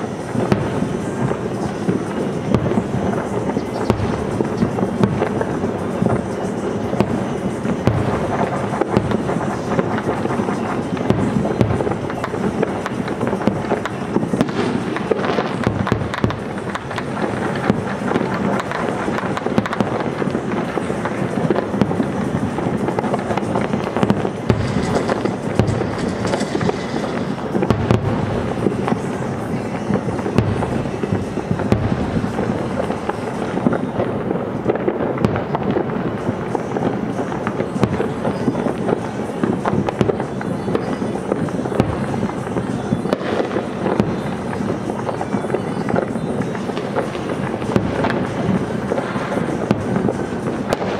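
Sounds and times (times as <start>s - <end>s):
fireworks bursting and crackling: 0.0s - 50.9s
music playing: 0.0s - 50.9s.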